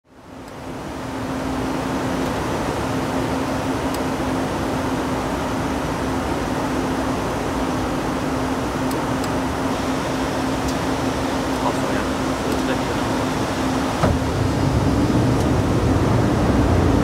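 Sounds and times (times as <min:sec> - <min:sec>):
aircraft engine and airflow rush: 0:00.1 - 0:17.0
low hum: 0:00.1 - 0:17.0.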